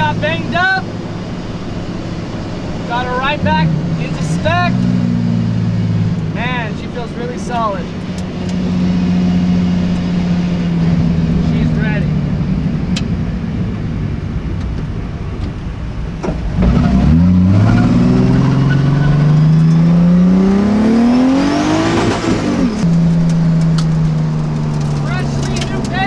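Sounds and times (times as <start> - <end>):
race car engine: 0.0 - 26.0.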